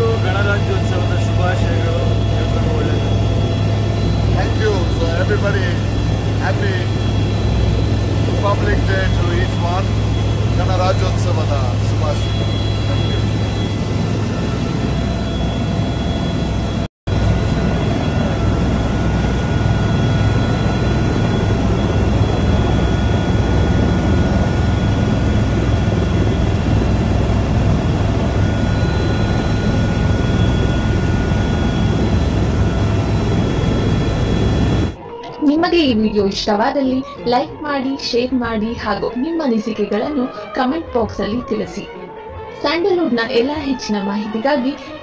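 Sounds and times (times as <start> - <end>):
helicopter engine and rotor noise: 0.0 - 36.4.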